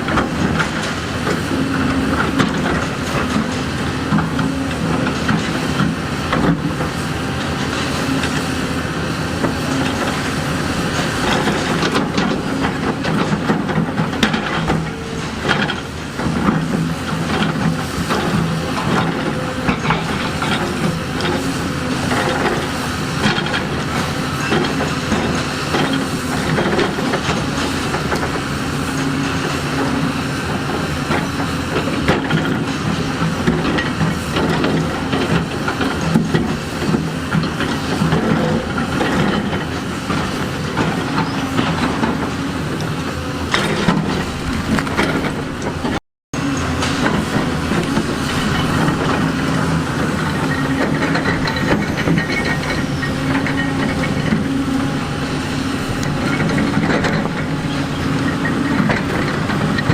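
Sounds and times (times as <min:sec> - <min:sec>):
heavy machinery diesel engine: 0:00.0 - 0:59.9
steel clanking and scraping on rock: 0:09.4 - 0:59.9.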